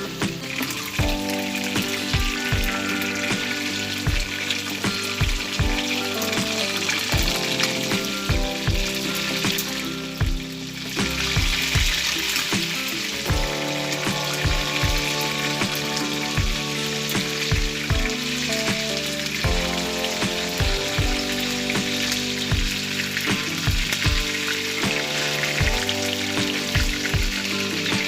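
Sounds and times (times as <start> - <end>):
food sizzling in hot oil: 0.0 - 28.0
music with thumping beat: 0.0 - 28.0.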